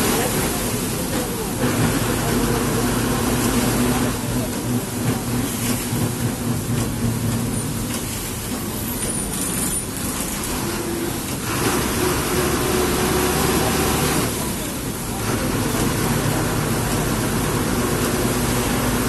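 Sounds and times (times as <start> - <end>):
diesel bus engine running: 0.0 - 19.0
rain: 0.0 - 19.0
tyres hissing on wet road: 0.0 - 19.0.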